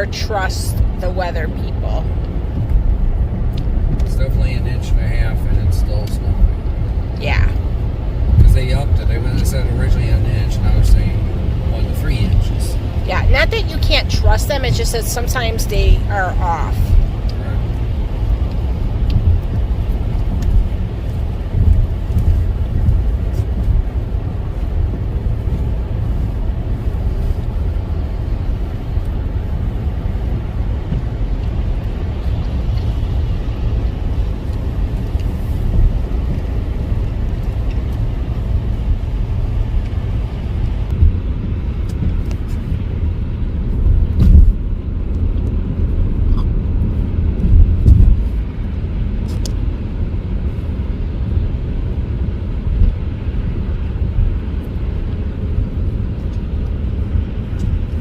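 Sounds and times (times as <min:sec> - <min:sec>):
car driving on snowy road: 0:00.0 - 0:58.0.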